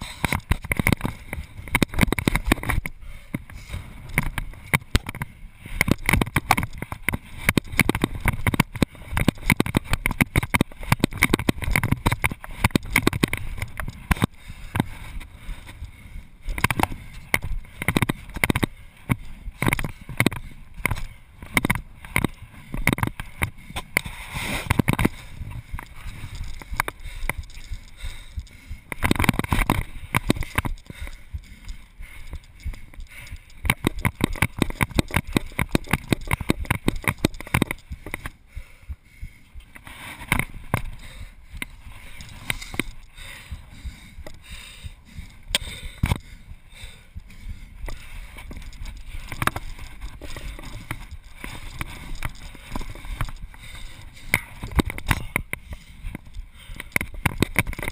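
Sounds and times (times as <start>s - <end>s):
footsteps on rooftops: 0.0s - 57.9s.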